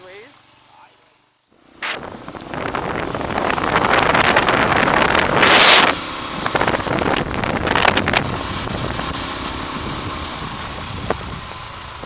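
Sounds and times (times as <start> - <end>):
motorbike engine running: 1.5 - 12.0
wind buffeting microphone: 1.8 - 12.0.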